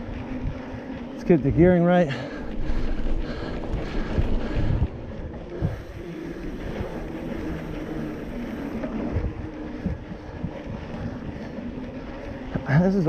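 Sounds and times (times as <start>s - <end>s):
bike tyres and drivetrain rumbling: 0.0s - 13.0s
wind buffeting microphone: 0.0s - 13.0s.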